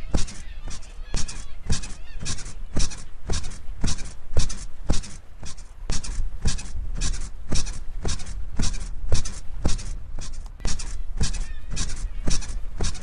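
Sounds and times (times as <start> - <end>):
bed springs squeaking: 0.0 - 13.0.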